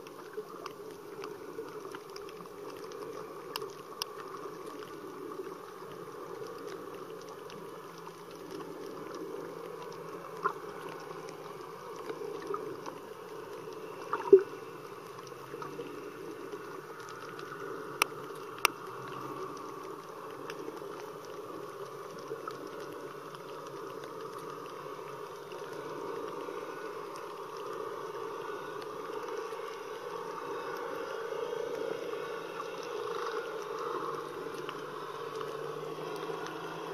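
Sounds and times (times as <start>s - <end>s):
sharp underwater clicks: 0.0s - 30.0s, 32.4s - 36.9s
underwater water wash: 0.0s - 36.9s.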